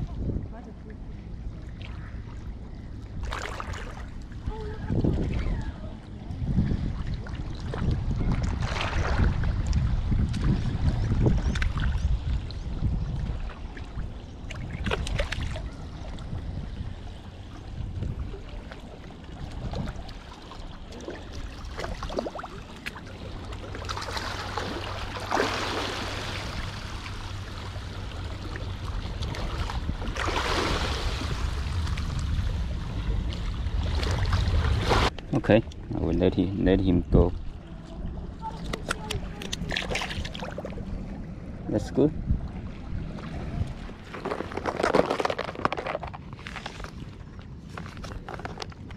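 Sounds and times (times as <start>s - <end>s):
low microphone rumble: 0.0s - 48.9s
waves lapping against stone wall: 0.0s - 48.9s.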